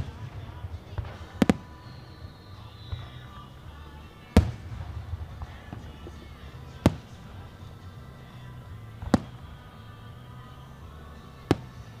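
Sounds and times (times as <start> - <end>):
fireworks booming: 0.0 - 12.0
steady music: 0.0 - 12.0.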